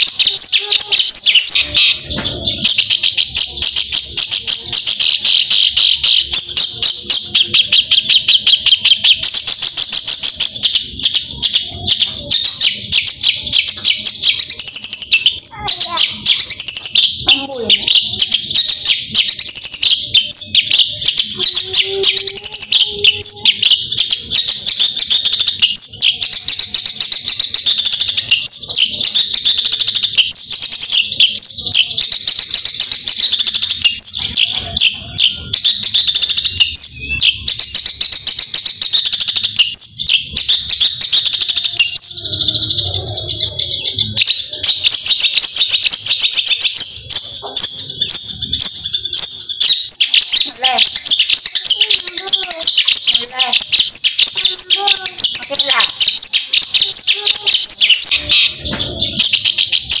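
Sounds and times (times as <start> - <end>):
shrike singing rapid chirps: 0.0 - 60.0.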